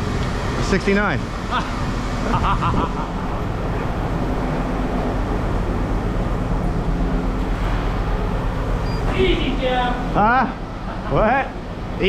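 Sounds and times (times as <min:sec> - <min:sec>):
heavy equipment engine running: 0:00.0 - 0:12.0.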